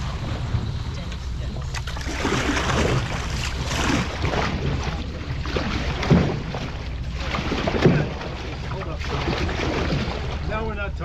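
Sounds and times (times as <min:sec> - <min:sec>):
paddle splashing in water: 0:01.6 - 0:10.7.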